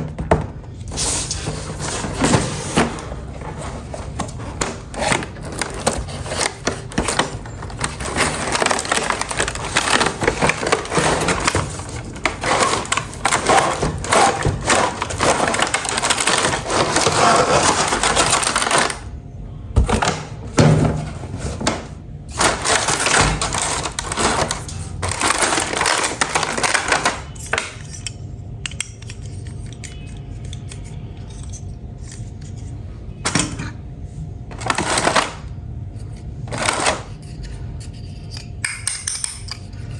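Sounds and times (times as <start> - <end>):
plastic toy pieces clattering: 1.4 - 19.1, 22.3 - 32.6, 34.5 - 35.5, 36.5 - 39.6.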